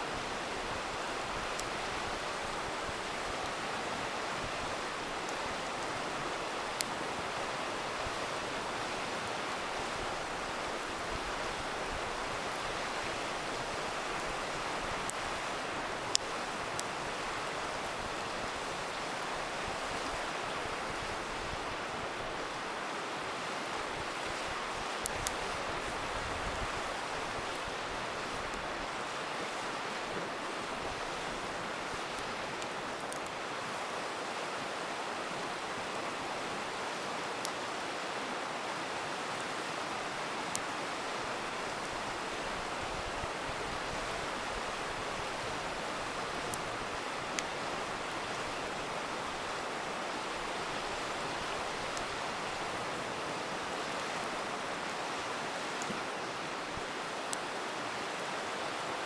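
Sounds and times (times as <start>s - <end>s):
river water rushing: 0.0s - 59.0s
campfire crackling and popping: 0.1s - 34.1s, 35.2s - 38.0s, 38.8s - 58.4s.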